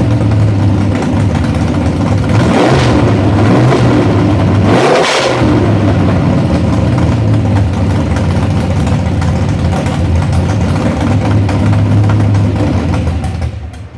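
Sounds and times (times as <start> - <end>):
engine idling: 0.0 - 13.9.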